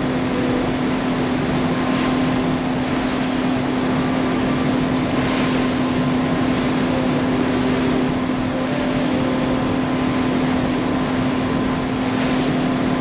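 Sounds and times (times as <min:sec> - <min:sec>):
boat engine humming: 0:00.0 - 0:13.0
steady rushing noise: 0:00.0 - 0:13.0.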